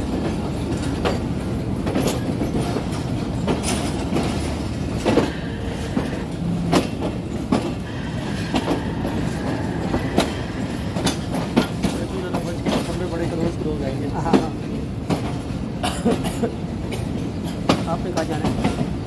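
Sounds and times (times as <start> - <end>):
train rumble: 0.0 - 19.0
wheels clacking over rail joints: 0.0 - 19.0.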